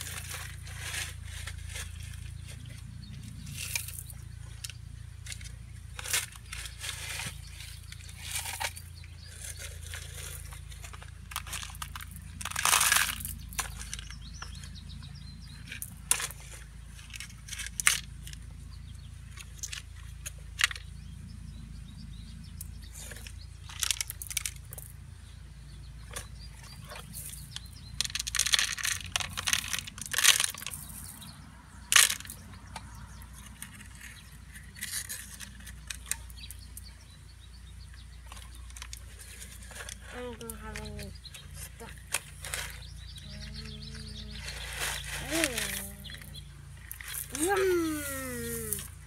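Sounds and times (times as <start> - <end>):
pebbles rattling against plastic toys: 0.0 - 21.0, 22.6 - 25.1, 26.0 - 49.0.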